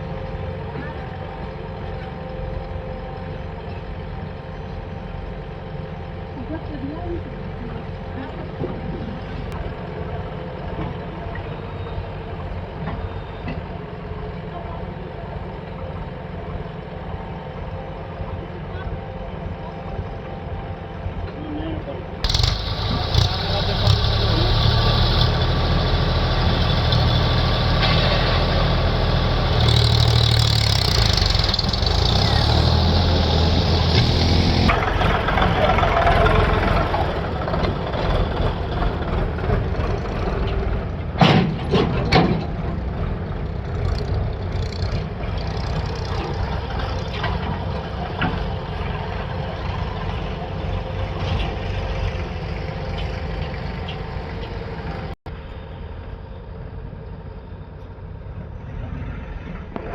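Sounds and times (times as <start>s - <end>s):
diesel engine running steadily: 0.0s - 58.8s.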